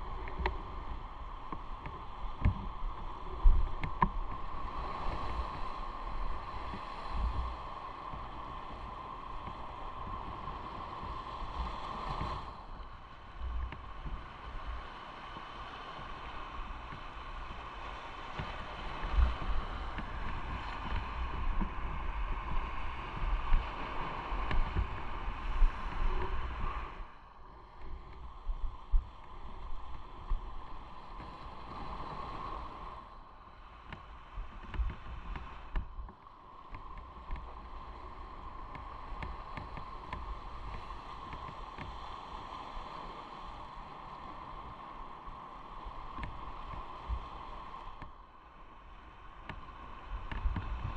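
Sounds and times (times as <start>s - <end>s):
wind buffeting on microphone: 0.0s - 48.2s, 48.9s - 50.9s.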